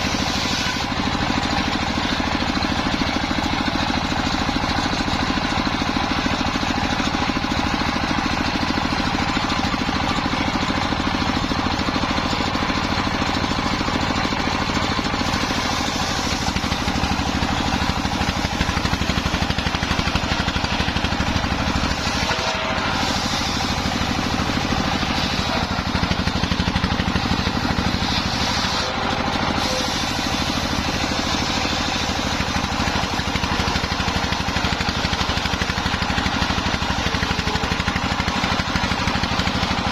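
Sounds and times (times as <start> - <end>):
saw blade cutting timber: 0.0 - 39.9
sawmill motor drone: 0.0 - 39.9.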